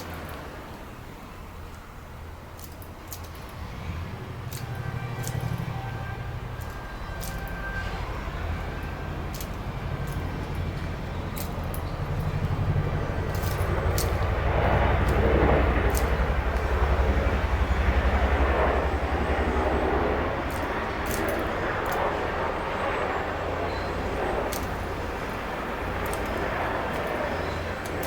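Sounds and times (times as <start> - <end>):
passing engine rumbling: 0.0 - 28.0.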